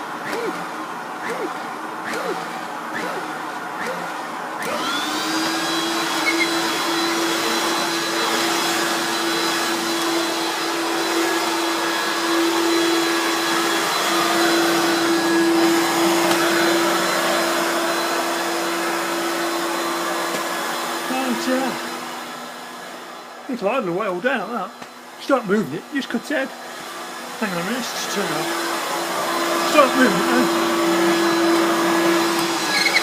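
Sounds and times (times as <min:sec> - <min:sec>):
vacuum cleaner motor running: 0:00.0 - 0:33.0.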